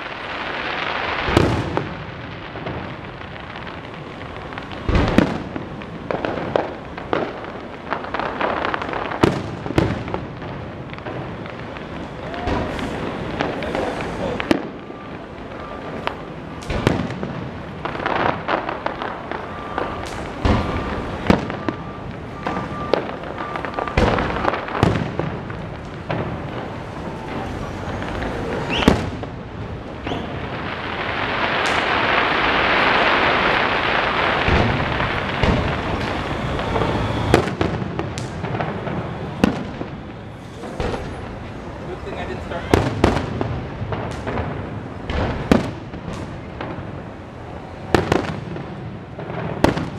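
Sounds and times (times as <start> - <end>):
fireworks bangs and booms: 0.0 - 49.9.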